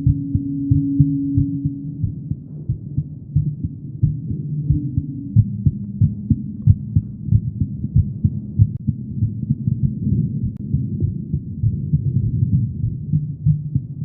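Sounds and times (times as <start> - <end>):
heart beating: 0.0 - 14.0.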